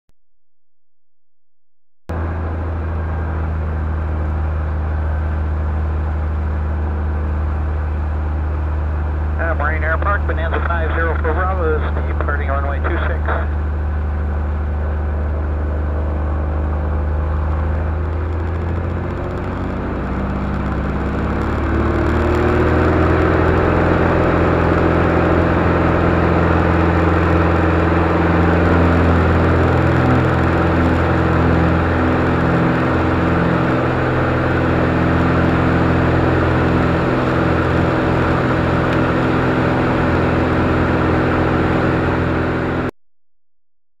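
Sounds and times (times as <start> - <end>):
propeller plane engine: 2.1 - 43.0.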